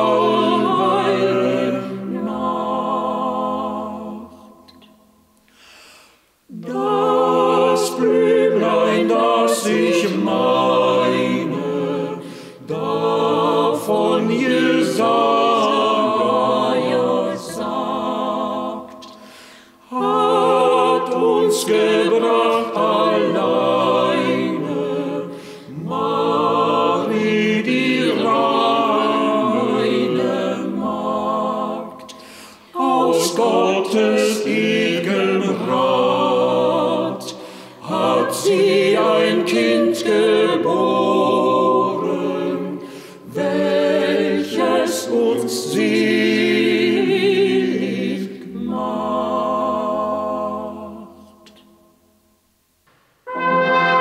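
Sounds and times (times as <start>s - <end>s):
vocal ensemble singing a hymn: 0.0s - 52.0s, 53.2s - 54.0s.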